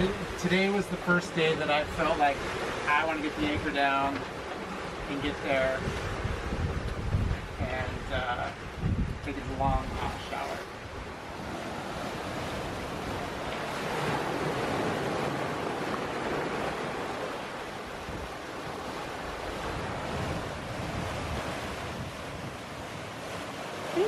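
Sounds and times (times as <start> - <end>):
waves washing against hulls: 0.0 - 24.0
wind on microphone: 1.7 - 24.0.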